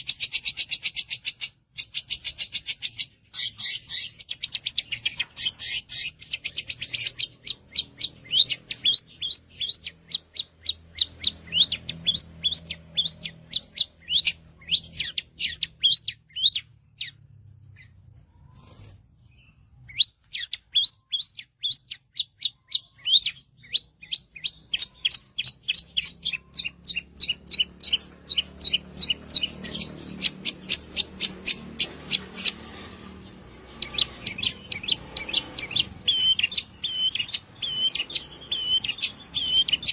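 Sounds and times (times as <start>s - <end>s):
bird singing sharp high chirps: 0.0s - 39.9s.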